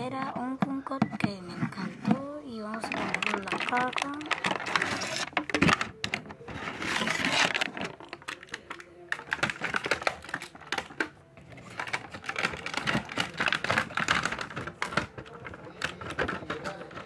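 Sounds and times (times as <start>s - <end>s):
plastic and cardboard crackling: 0.0s - 17.0s.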